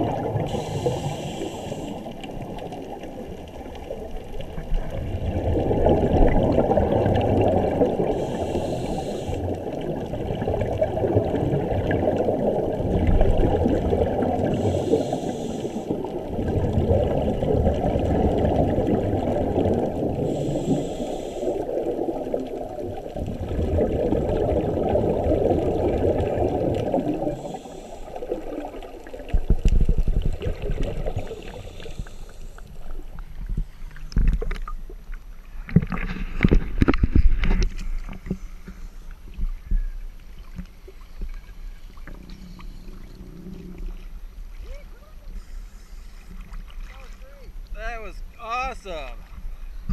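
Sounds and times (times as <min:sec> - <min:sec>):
muffled underwater noise: 0:00.0 - 0:32.9, 0:42.0 - 0:49.3
choppy water surface noise: 0:00.0 - 0:49.9.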